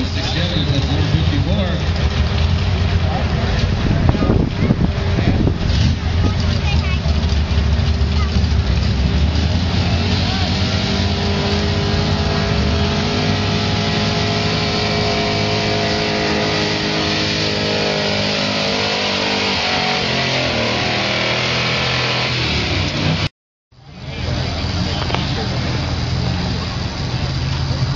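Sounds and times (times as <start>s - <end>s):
truck engine revving hard: 0.0s - 23.3s, 24.0s - 27.9s.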